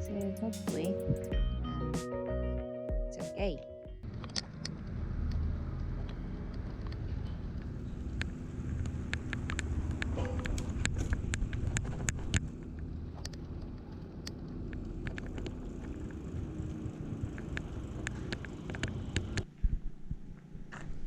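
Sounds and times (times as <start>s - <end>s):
bicycle rolling on road: 4.0s - 21.0s.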